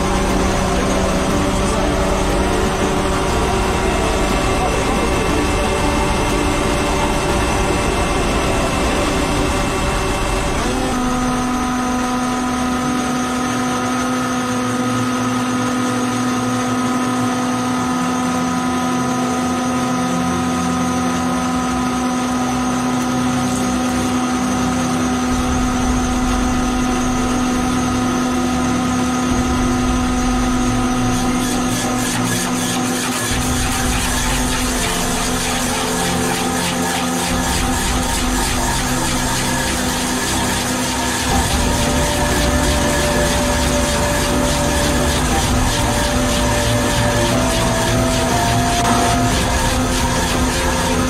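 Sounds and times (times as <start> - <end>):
excavator engine and hydraulics: 0.0 - 51.0.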